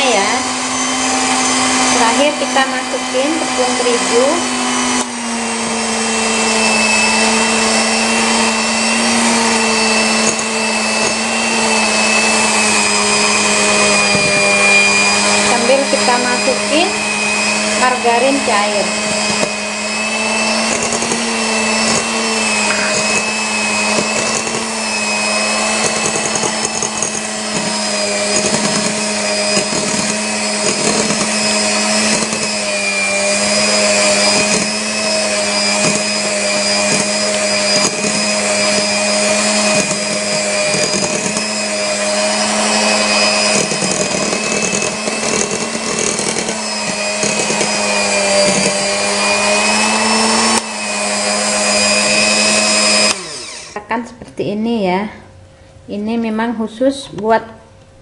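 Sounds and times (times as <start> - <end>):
electric hand mixer whirring: 0.0 - 54.0.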